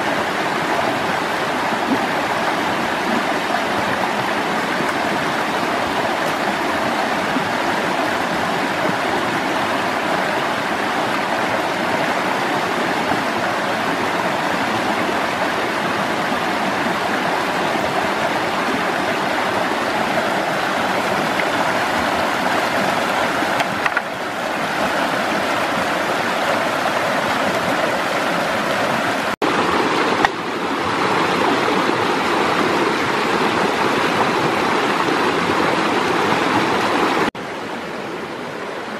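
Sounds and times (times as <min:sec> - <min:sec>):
small waterfall: 0:00.0 - 0:38.9
stream rushing over rocks: 0:00.0 - 0:38.9.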